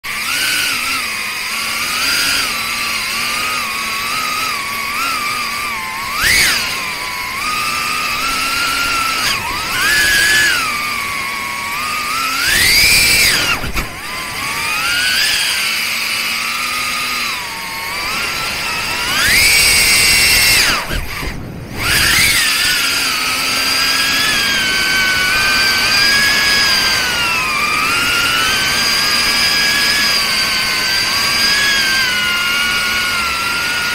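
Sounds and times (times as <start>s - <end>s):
drone motors whining: 0.0s - 33.9s.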